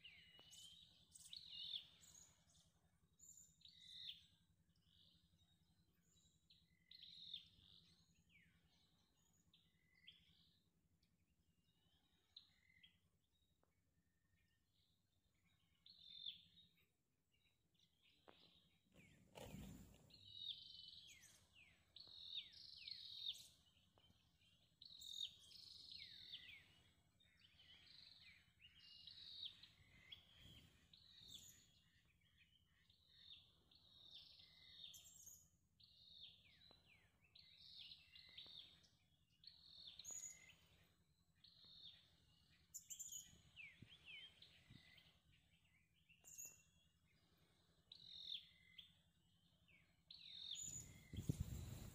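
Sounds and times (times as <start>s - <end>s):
faint birdsong chirping: 0.0s - 51.9s.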